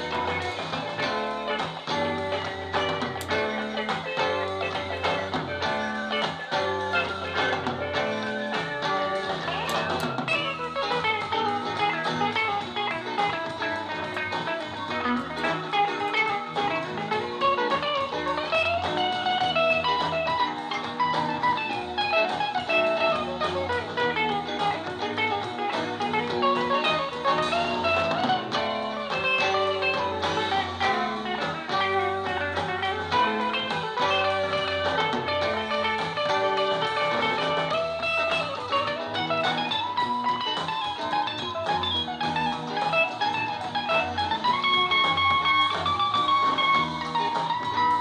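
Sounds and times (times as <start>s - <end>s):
live band with guitar on speakers: 0.0s - 48.0s.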